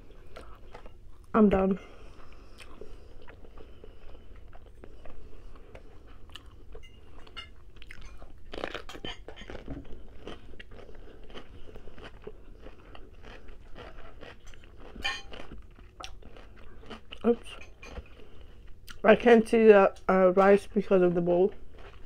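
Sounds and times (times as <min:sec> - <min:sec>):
chewing food with crunches: 0:00.0 - 0:19.1, 0:19.9 - 0:22.0.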